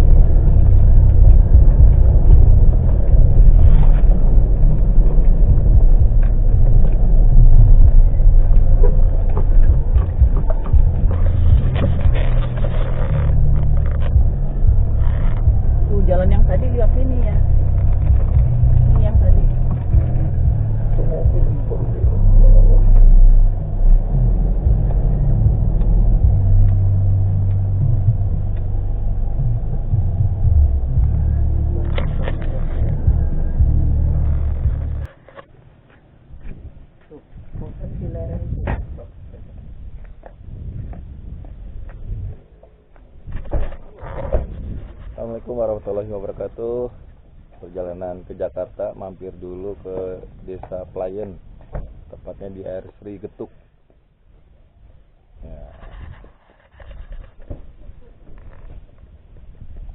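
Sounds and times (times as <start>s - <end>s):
car engine and road noise: 0.0s - 59.9s
vehicle rumbling on the move: 0.0s - 59.9s.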